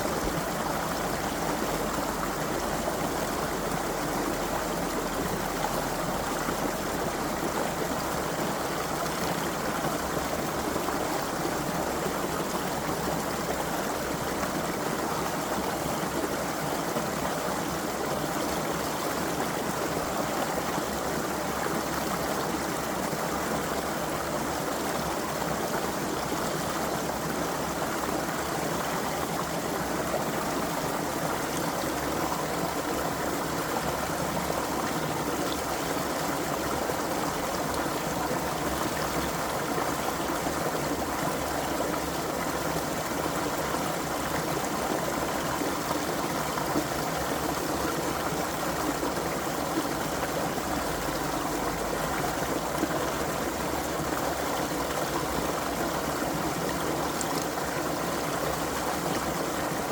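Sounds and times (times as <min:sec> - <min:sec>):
creek water babbling over stones: 0:00.0 - 0:59.9.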